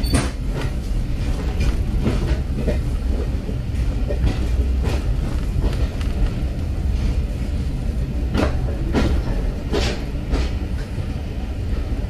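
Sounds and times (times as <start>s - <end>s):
wheels clicking on track: 0.0s - 11.0s
train carriage rumbling: 0.0s - 12.0s.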